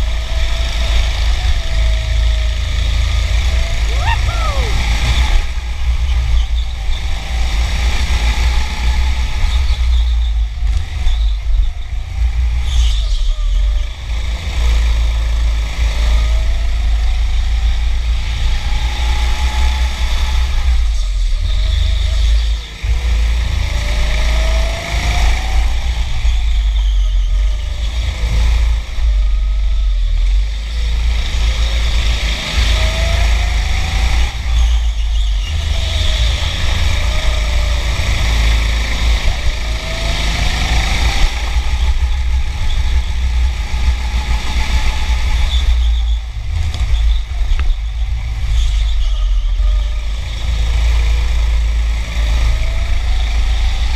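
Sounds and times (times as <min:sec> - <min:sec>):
go-kart motor whining: 0:00.0 - 0:53.9
wind rumble on microphone: 0:00.0 - 0:53.9.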